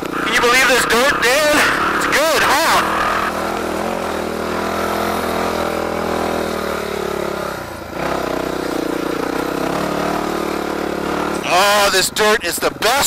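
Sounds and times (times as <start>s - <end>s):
dirt bike engine running: 0.0s - 12.2s.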